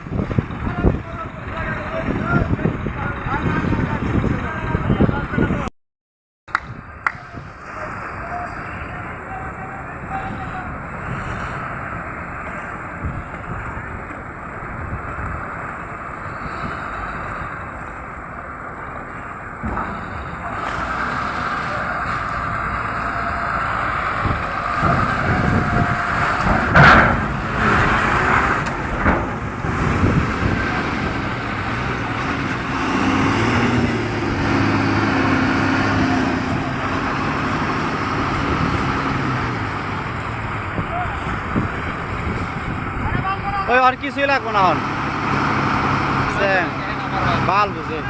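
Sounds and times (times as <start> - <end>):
outdoor traffic noise: 0.0 - 5.7, 6.5 - 48.0
vehicle engines running: 0.0 - 5.7, 6.5 - 48.0
low engine hum: 6.5 - 48.0.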